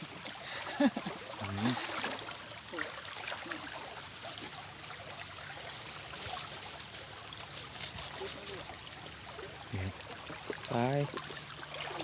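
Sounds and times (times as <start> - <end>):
shallow water trickling: 0.0 - 12.0
small splashes and clicks: 1.2 - 9.0, 9.8 - 12.0.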